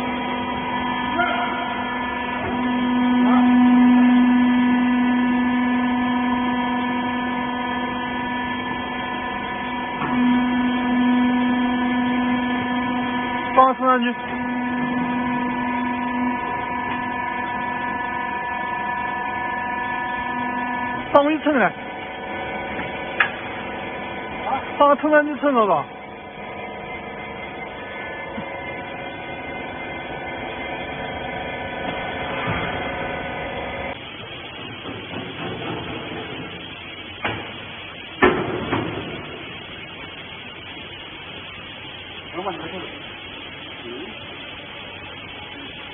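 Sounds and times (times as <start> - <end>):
electric machine hum: 0.0 - 45.9.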